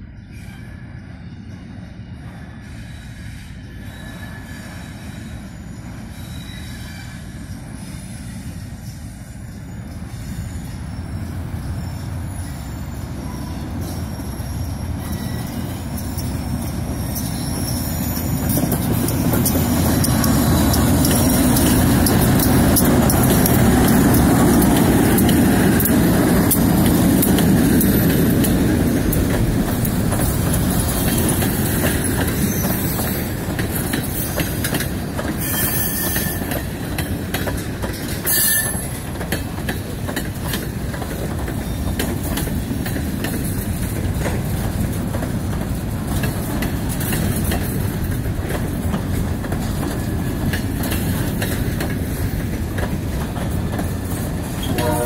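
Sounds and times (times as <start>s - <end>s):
diesel locomotive engines: 0.0s - 55.0s
train wheels squealing and clacking: 0.0s - 55.0s.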